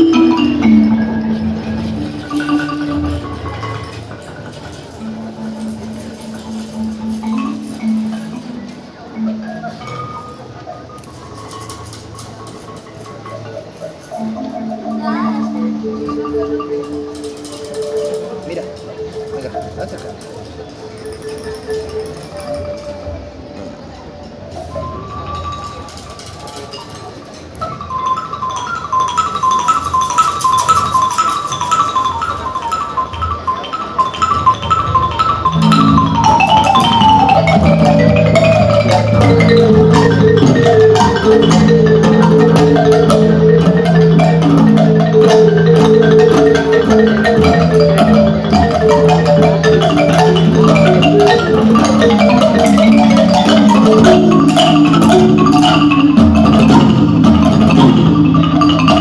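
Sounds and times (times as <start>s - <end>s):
marimba ensemble playing: 0.0s - 59.0s.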